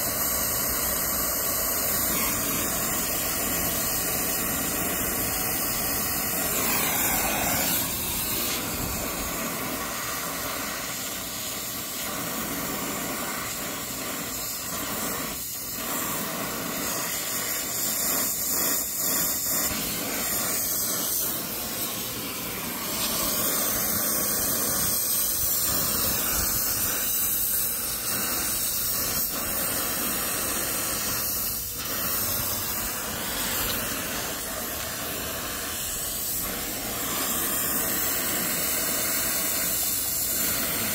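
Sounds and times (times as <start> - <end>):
torch flame hissing: 0.0 - 40.9.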